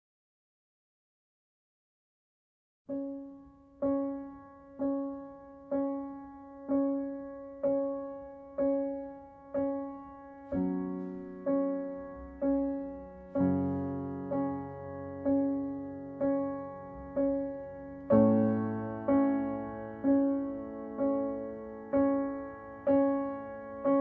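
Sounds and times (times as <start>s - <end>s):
slow piano music: 2.9s - 24.0s.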